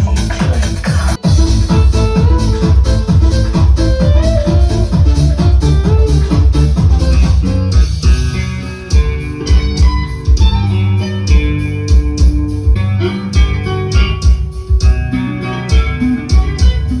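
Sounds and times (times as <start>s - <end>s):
guitar-led music with drums: 1.1s - 17.0s.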